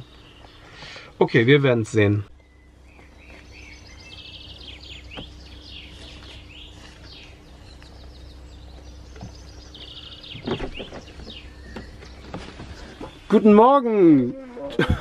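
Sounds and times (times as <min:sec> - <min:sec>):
faint steady hum: 0:00.0 - 0:15.0
songbirds chirping and trilling: 0:00.0 - 0:15.0.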